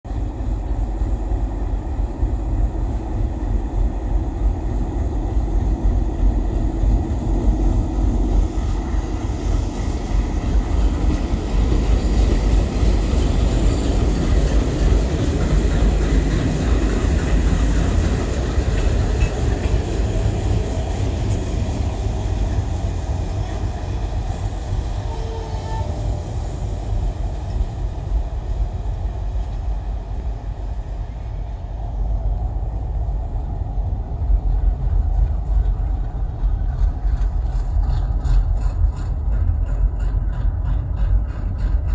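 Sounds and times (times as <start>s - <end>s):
heavy locomotive engine rumble: 0.0s - 41.9s.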